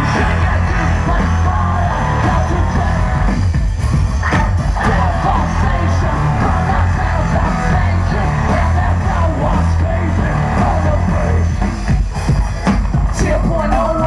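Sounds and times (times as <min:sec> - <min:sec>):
heavy bass notes: 0:00.0 - 0:14.0
live rock band playing: 0:00.0 - 0:14.0.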